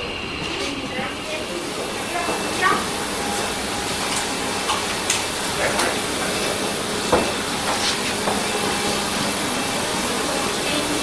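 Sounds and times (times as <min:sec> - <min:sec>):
airport aircraft noise hiss: 0:00.0 - 0:11.0.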